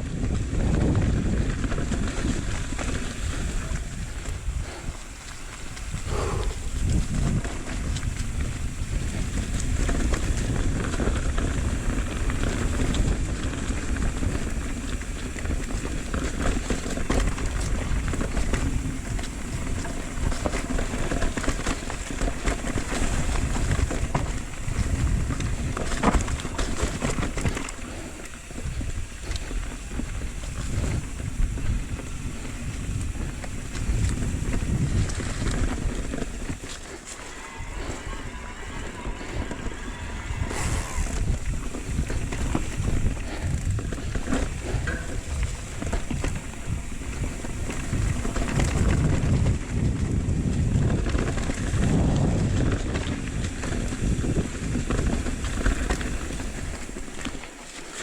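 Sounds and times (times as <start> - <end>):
bike clicks and rattles: 0.0 - 58.0
wind buffeting microphone: 0.0 - 58.0.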